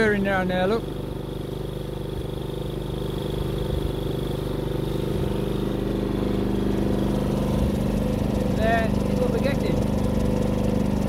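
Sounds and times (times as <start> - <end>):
pump humming: 0.0 - 11.0.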